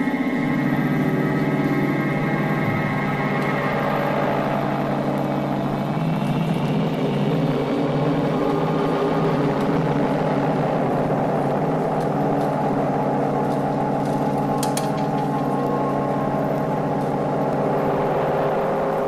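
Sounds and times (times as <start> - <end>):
hazy background noise: 0.0 - 19.0
low droning hum: 0.0 - 19.0.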